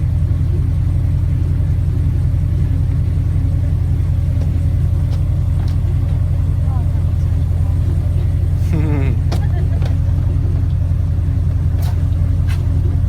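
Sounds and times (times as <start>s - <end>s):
airboat engine rumble: 0.0s - 13.0s.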